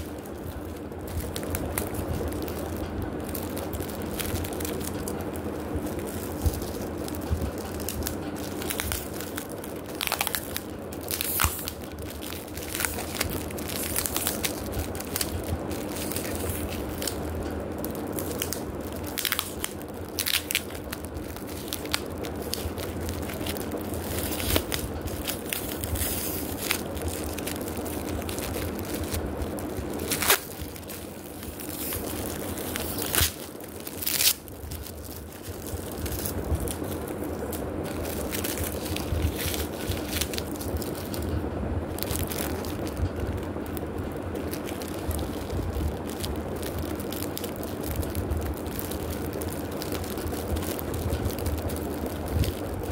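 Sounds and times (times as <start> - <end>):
plastic packets crinkling: 0.0 - 52.9.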